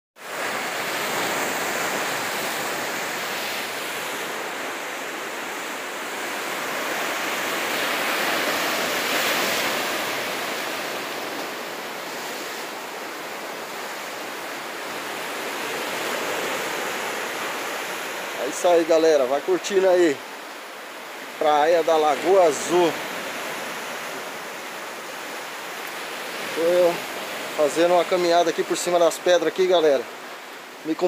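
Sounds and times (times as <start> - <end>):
ocean surf breaking over rocks: 0.2 - 31.0.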